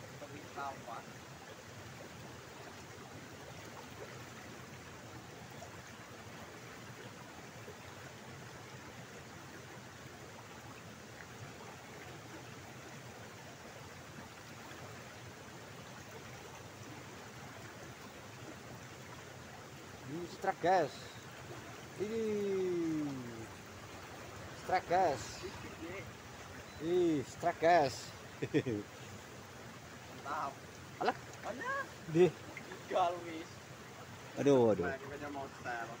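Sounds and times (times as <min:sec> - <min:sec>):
water rushing down a channel: 0:00.0 - 0:36.0.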